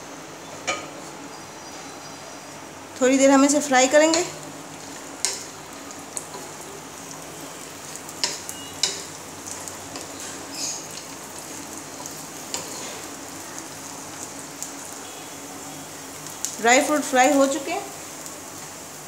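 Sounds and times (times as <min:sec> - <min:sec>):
nuts sizzling in a pan: 0:03.0 - 0:19.0.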